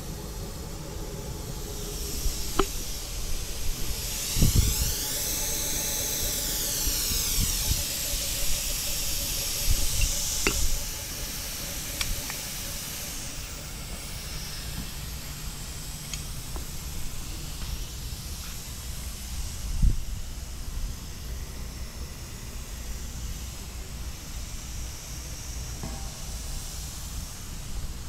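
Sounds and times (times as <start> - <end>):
tool grinder hiss and hum: 0.0 - 28.0.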